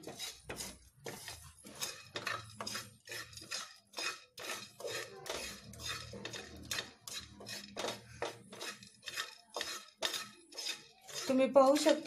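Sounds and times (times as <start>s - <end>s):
spatula scraping a pan: 0.0s - 12.0s.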